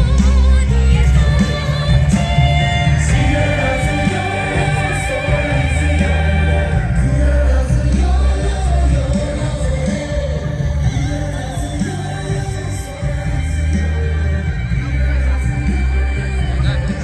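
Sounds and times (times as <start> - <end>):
heavy bass music: 0.0 - 17.0
singing with vibrato: 0.0 - 17.0.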